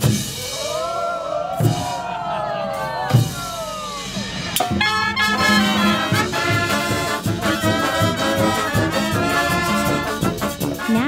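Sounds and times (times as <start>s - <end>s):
brass band playing: 0.0s - 11.0s
steady drum beat: 0.0s - 11.0s.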